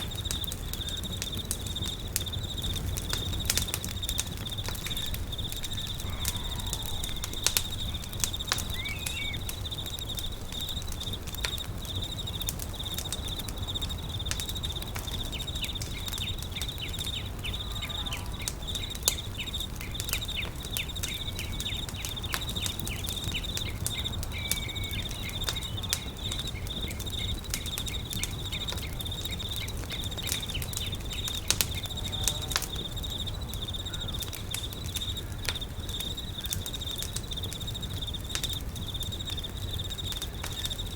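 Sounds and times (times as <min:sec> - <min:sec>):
campfire crackling and popping: 0:00.0 - 0:40.9
insect chirring: 0:00.0 - 0:40.9.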